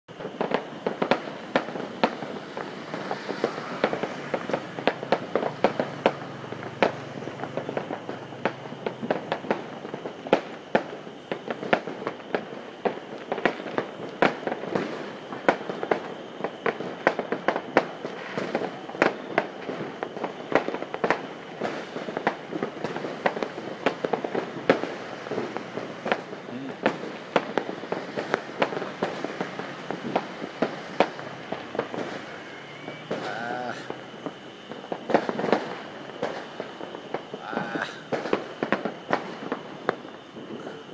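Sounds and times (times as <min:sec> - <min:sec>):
distant fireworks crackling: 0:00.1 - 0:40.9
fireworks bangs and pops: 0:00.1 - 0:40.9.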